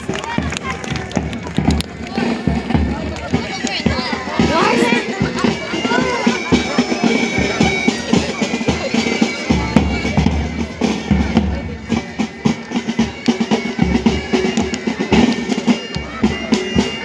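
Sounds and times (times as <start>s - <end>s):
bass and snare drums marching: 0.0s - 17.0s
bagpipes holding notes: 0.1s - 17.0s.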